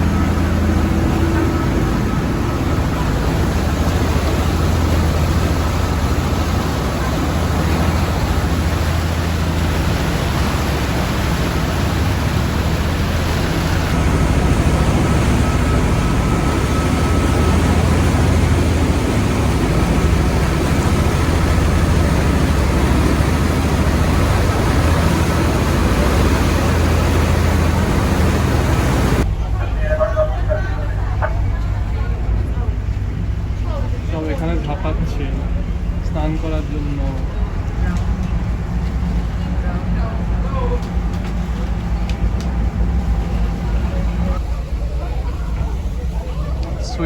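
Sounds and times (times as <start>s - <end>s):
boat engine droning: 0.0s - 47.0s
wind and water rushing: 0.0s - 47.0s.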